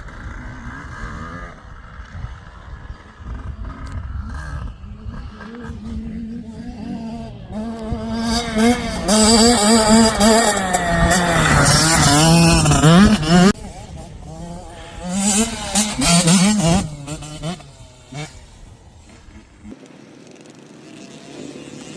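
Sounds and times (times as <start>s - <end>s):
dirt bike engines revving: 0.0s - 21.9s.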